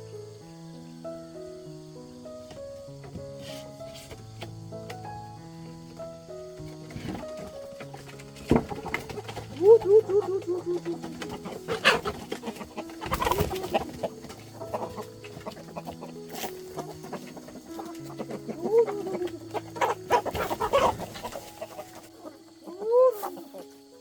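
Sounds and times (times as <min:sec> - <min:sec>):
chickens clucking: 0:01.2 - 0:24.0.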